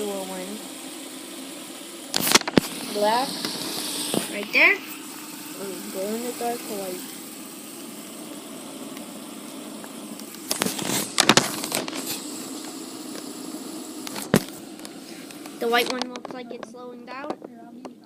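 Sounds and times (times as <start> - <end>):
fidget spinners whirring: 0.0 - 18.0.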